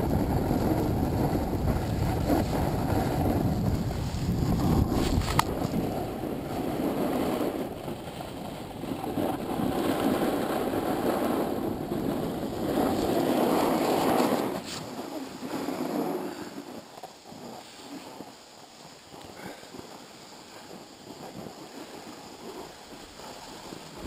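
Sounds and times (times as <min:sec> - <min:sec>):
skis scraping on snow: 0:00.0 - 0:24.0
wind buffeting microphone: 0:00.0 - 0:24.0.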